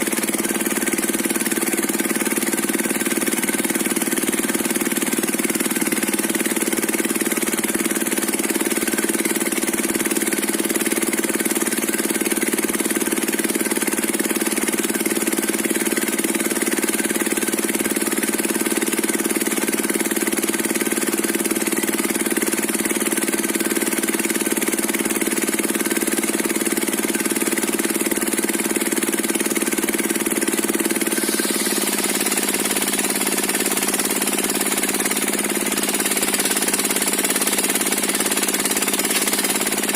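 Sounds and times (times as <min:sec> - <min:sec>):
stationary diesel engine running: 0:00.0 - 0:39.9.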